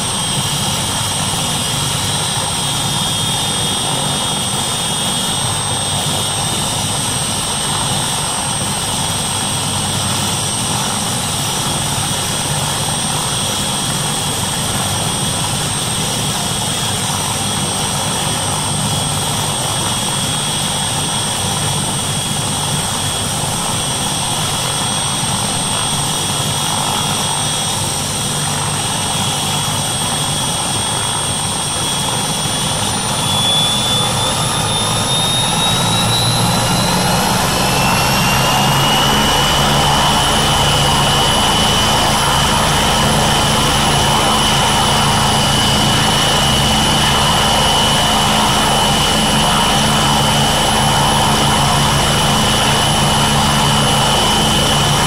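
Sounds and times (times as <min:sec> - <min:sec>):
helicopter rotor beat: 0:00.0 - 0:55.0
high turbine whine: 0:00.0 - 0:55.0.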